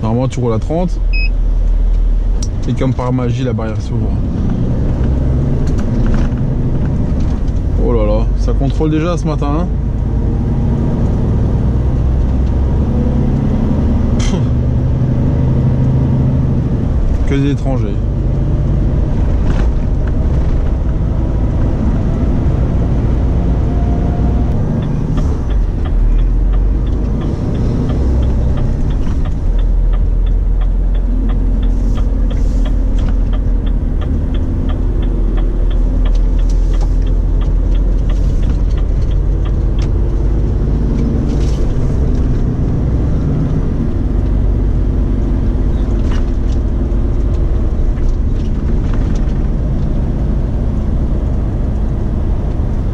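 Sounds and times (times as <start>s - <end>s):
diesel engine rumble: 0.0s - 52.9s
road noise: 0.0s - 52.9s
turn signal ticking: 1.0s - 52.9s.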